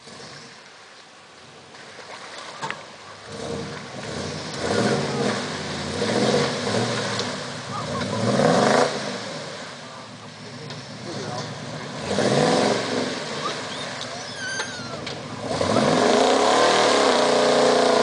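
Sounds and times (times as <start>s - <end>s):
wheels churning in mud: 0.0s - 18.0s
truck engine revving hard: 3.2s - 18.0s.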